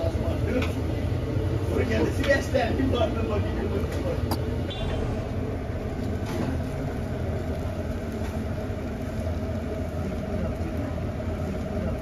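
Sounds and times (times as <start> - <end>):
low mechanical hum and rumble: 0.0 - 12.0.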